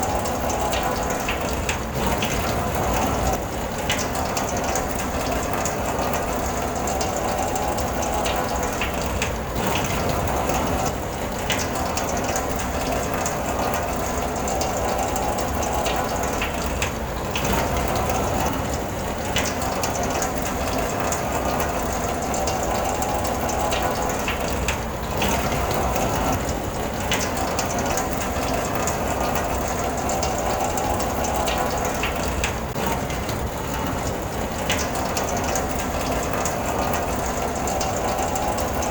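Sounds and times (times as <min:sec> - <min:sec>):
rain pattering on a car: 0:00.0 - 0:38.9.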